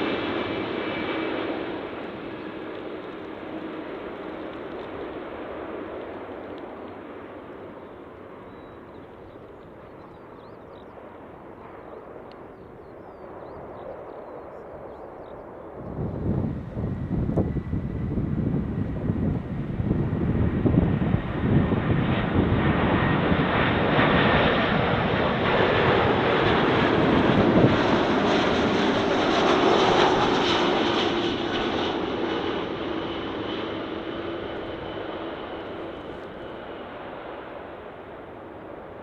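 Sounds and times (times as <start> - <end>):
jet engine whine dropping in pitch: 0.0 - 5.3, 6.0 - 39.0
airliner engines roaring overhead: 0.0 - 39.0.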